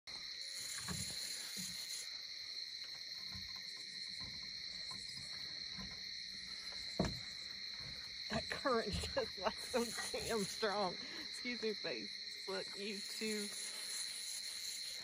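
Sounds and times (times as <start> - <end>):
crickets chirping: 0.1 - 15.0.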